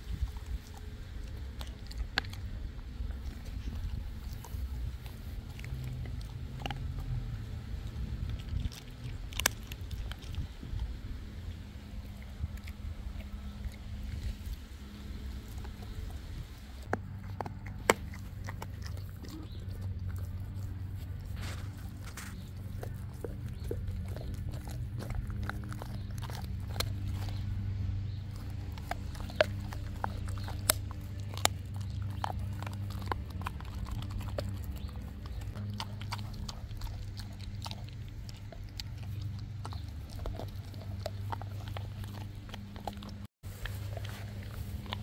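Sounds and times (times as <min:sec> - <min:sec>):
dog chewing meat and bone: 0:00.0 - 0:45.0.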